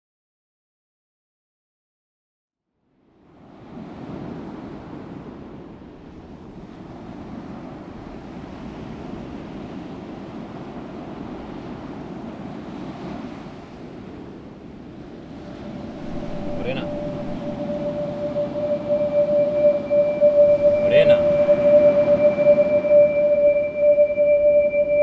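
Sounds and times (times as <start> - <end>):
ocean surf rushing: 3.4 - 25.0.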